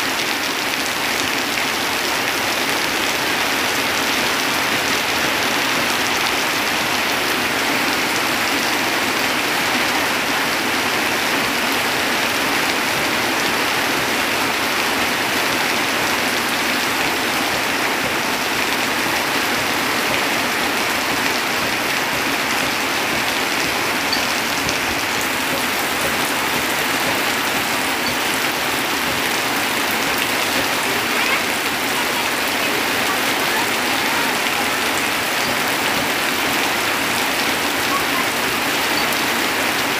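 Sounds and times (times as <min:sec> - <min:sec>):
heavy rain on tin roof: 0:00.0 - 0:39.9
water pouring off roof: 0:00.0 - 0:39.9.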